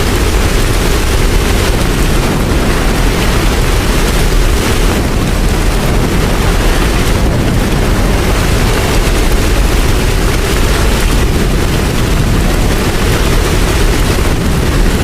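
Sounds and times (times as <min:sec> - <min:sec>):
deep low rumble: 0:00.0 - 0:15.0
heavy rain hissing: 0:00.0 - 0:15.0.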